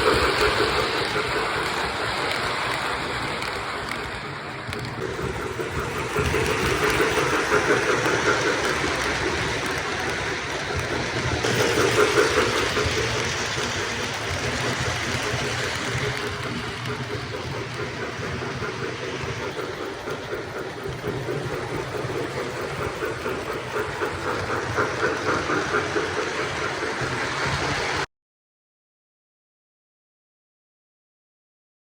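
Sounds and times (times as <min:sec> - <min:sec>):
rhythmic wheel clatter: 0:00.0 - 0:28.1
train rumble: 0:00.0 - 0:28.1.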